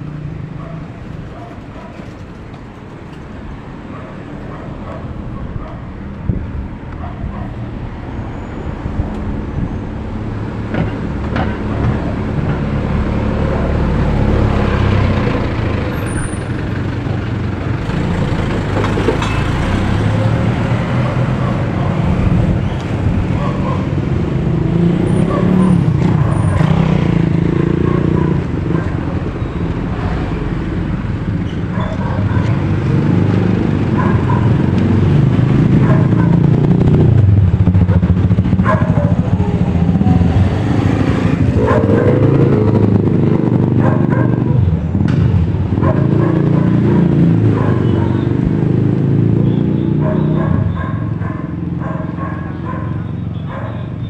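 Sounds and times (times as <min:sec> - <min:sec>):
cars and motorcycles passing: 0:00.0 - 0:54.0.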